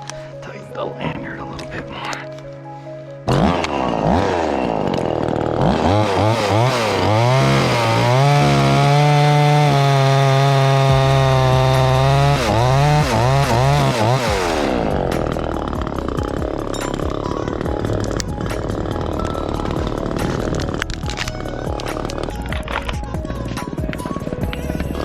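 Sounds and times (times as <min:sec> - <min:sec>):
chainsaw revving and cutting wood: 0:03.2 - 0:25.0.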